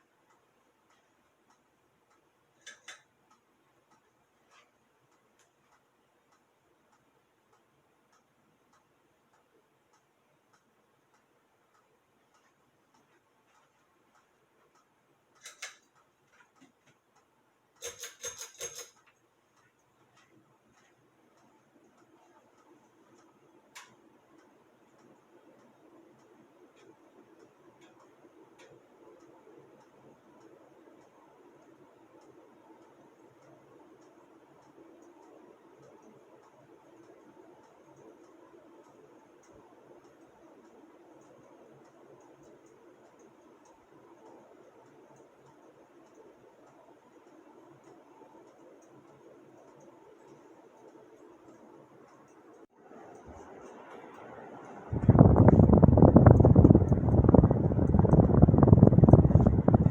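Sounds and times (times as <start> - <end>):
ceiling fan whirring: 0.0 - 59.9
faint steady ticking: 0.0 - 59.9.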